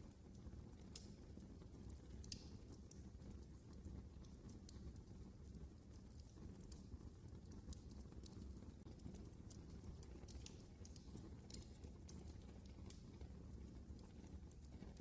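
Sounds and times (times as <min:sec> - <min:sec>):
low rumble of flames: 0:00.0 - 0:15.0
wood fire crackling and popping: 0:00.1 - 0:15.0.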